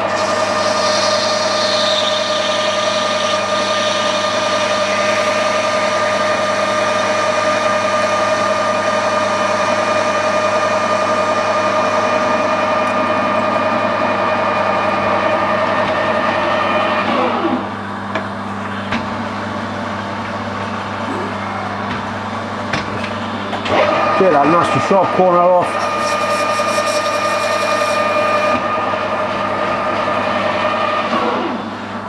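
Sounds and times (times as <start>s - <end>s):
metal lathe whining: 0.0s - 32.0s.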